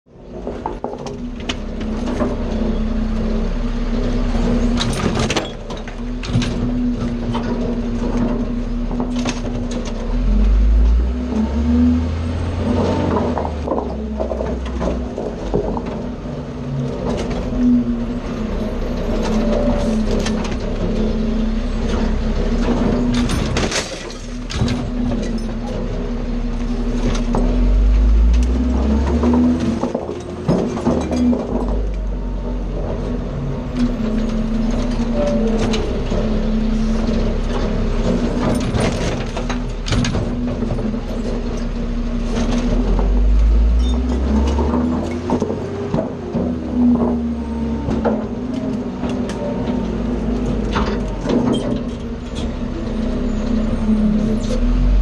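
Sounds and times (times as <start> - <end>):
garbage truck engine running: 0.1 - 55.0
truck body rattling and clanking: 0.1 - 55.0.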